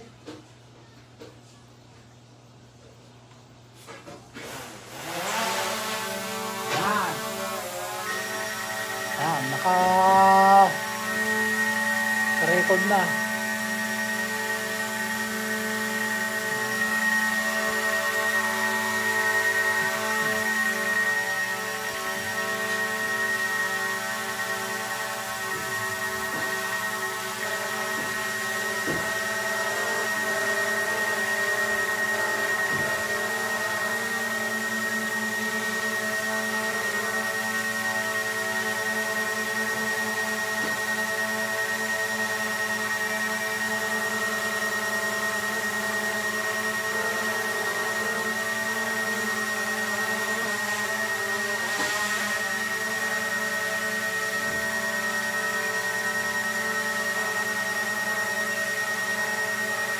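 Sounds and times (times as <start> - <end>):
quadcopter drone propellers whining: 4.5 - 59.9.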